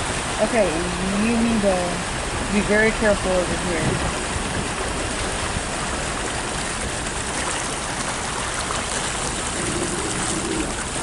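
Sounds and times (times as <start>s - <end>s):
water rushing against a car: 0.0s - 11.0s.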